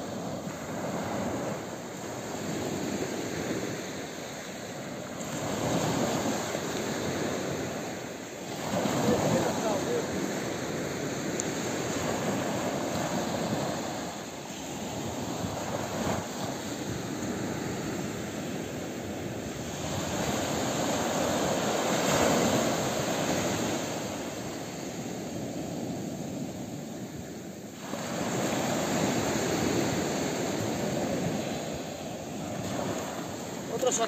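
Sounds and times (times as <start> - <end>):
small waves breaking on beach: 0.0 - 34.0.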